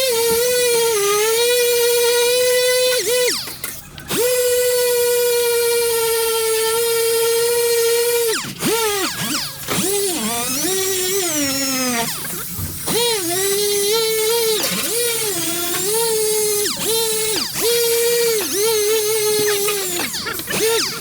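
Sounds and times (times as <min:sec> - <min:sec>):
grinding tool whining: 0:00.0 - 0:21.0.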